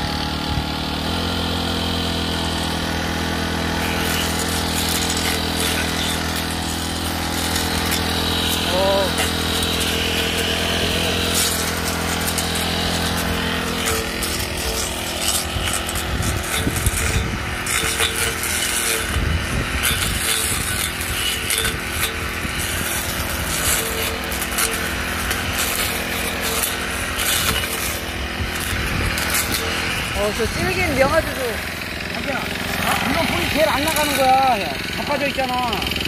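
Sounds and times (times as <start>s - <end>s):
blade cutting weeds: 0.0s - 36.0s
brush cutter engine running: 0.0s - 36.0s.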